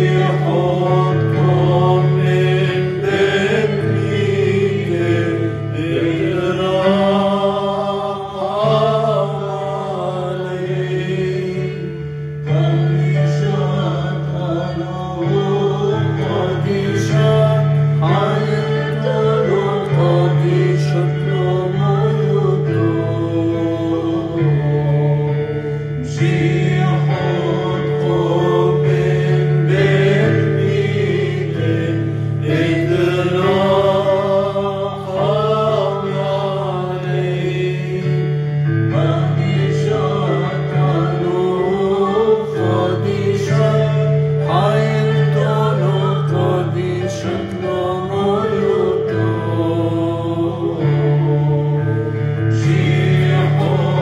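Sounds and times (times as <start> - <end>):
voices singing chant: 0.0 - 54.0.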